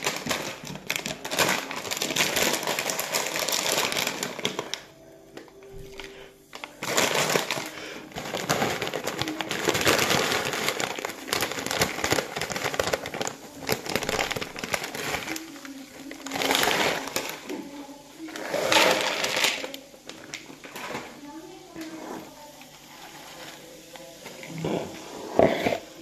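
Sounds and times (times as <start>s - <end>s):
plastic snack bag crinkling: 0.0s - 26.0s.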